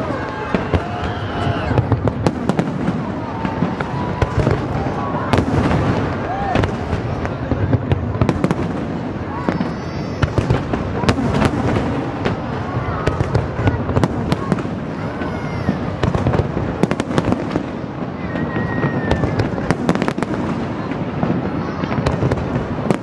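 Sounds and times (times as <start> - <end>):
crowd voices: 0.0 - 23.0
fireworks bangs and crackles: 0.0 - 23.0.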